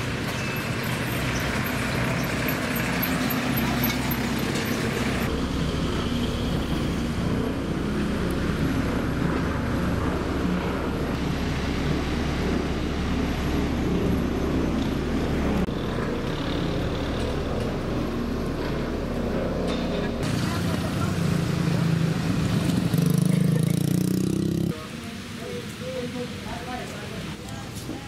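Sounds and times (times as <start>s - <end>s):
motor engine droning: 0.0s - 24.7s.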